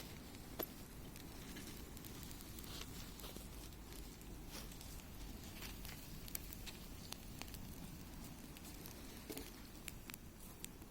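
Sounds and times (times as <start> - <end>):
bonfire crackling and popping: 0.0 - 10.9.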